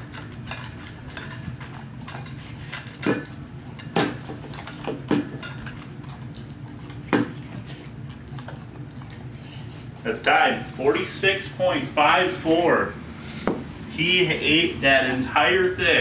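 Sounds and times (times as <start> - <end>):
dog eating from metal bowl: 0.0 - 12.9.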